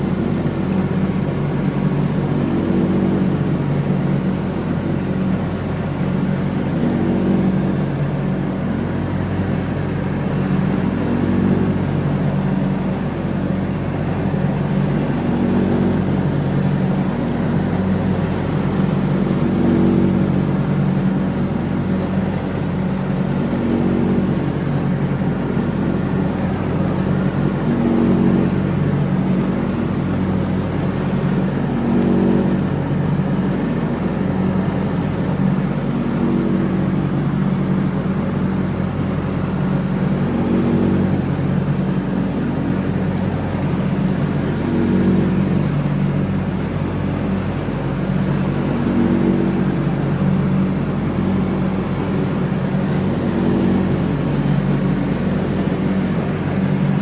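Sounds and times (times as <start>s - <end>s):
lawn tractor engine mowing: 0.0s - 57.0s.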